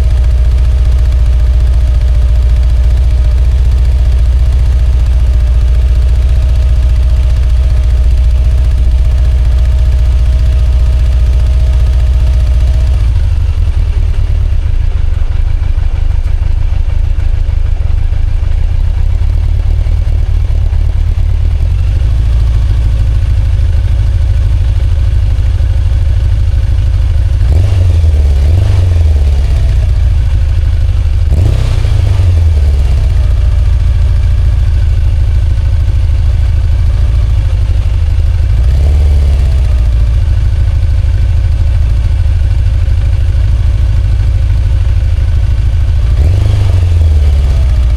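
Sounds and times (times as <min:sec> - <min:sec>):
motorcycle engine idling and revving: 0:00.0 - 0:47.9.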